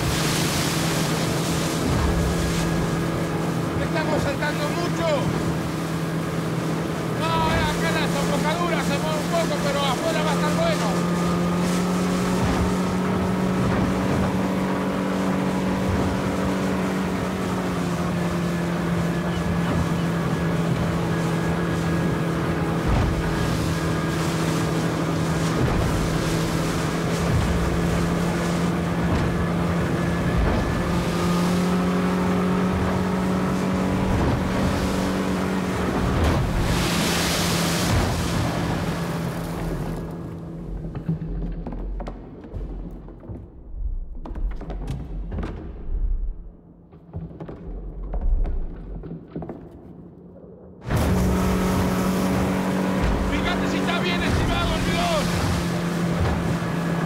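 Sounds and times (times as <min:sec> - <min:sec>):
hull rushing through choppy water: 0:00.0 - 0:49.7, 0:50.8 - 0:57.0
motorboat engine: 0:00.0 - 0:57.0
wind: 0:00.0 - 0:57.0.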